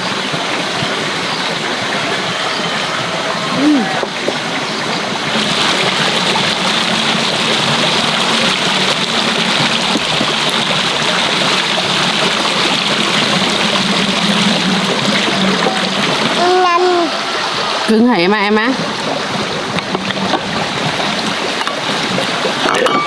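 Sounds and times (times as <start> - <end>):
steady rushing noise: 0.0 - 22.7.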